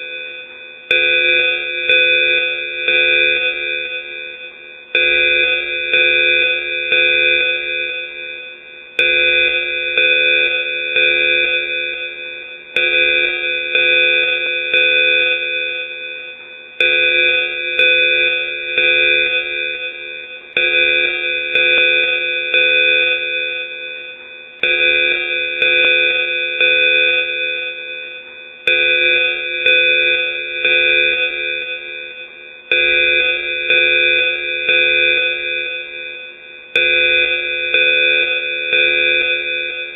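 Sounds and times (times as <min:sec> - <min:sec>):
electronic alarm tones: 0:00.0 - 0:39.9.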